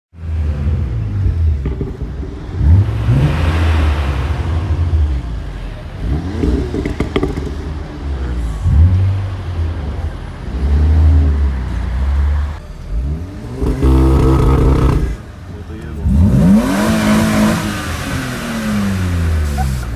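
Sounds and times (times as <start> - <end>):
car engines revving: 0.2 - 19.9
exhaust crackles: 0.2 - 19.9.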